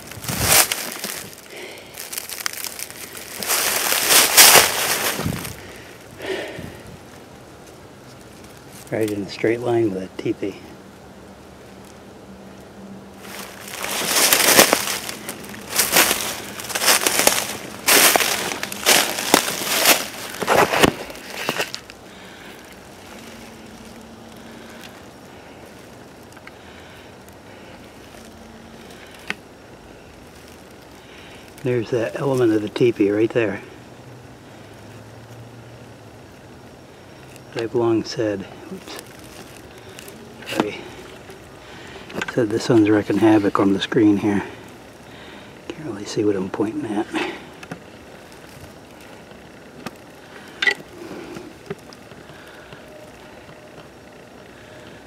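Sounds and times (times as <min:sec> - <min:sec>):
footsteps crunching through dry leaves: 0:00.0 - 0:09.8, 0:11.5 - 0:33.9, 0:36.3 - 0:55.0.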